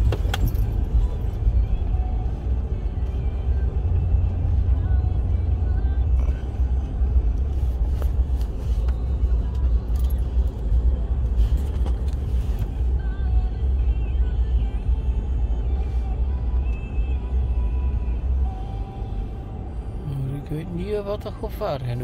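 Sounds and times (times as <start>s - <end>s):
car engine and tyre drone: 0.0s - 22.0s.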